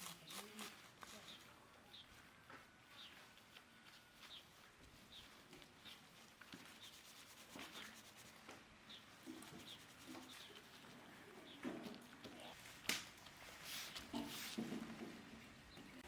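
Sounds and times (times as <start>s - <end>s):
soft rustling: 0.0s - 15.0s.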